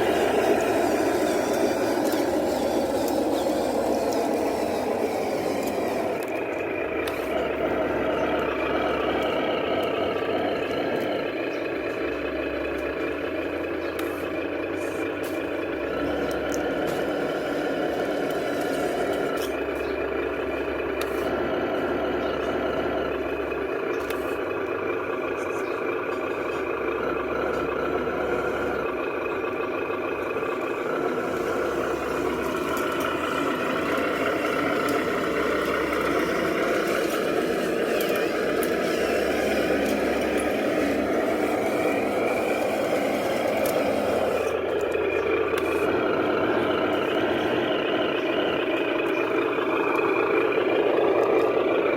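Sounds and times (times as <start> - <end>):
remote-control truck running: 0.0 - 51.9.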